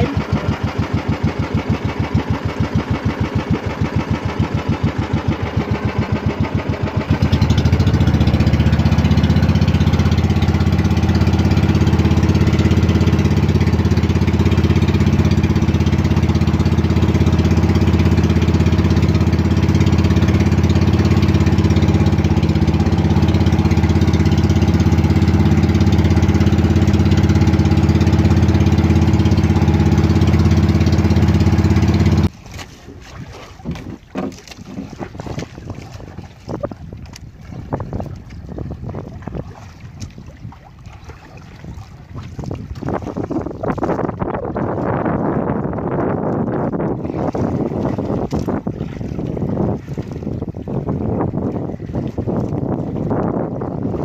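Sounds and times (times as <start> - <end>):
boat engine chugging: 0.0 - 54.0.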